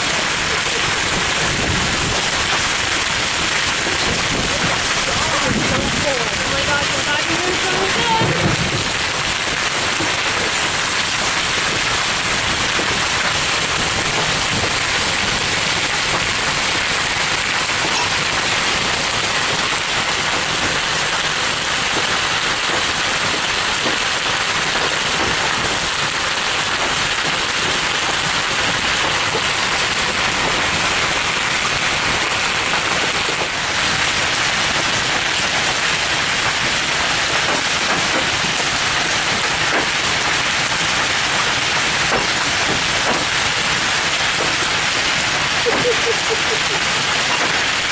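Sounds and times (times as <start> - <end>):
hail and heavy rain pelting: 0.0 - 47.9.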